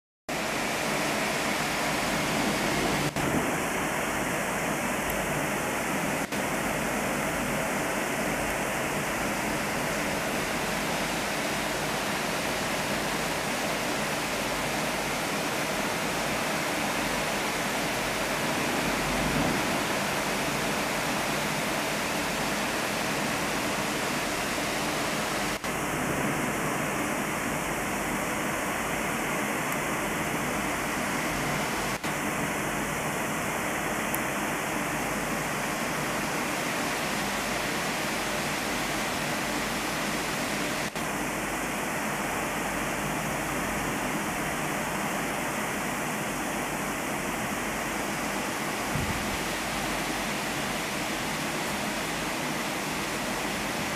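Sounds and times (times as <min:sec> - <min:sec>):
heavy rain pouring: 0:00.3 - 0:53.9.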